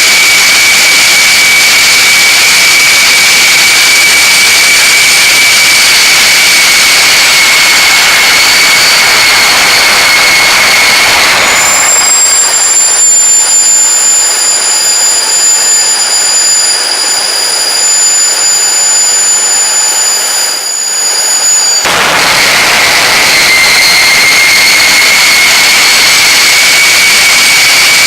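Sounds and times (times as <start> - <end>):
turbine whine: 0.0 - 28.0
turbojet engine rushing hiss: 0.0 - 28.0.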